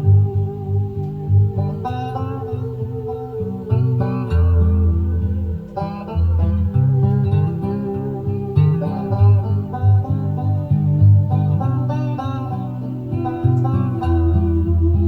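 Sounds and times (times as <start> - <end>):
music from cassette tape: 0.0 - 15.0.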